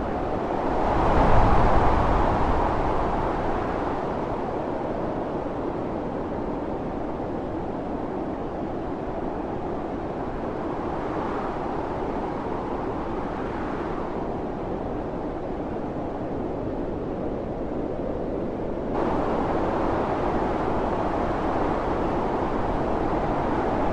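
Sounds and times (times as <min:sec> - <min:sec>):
snowstorm wind blowing: 0:00.0 - 0:23.9.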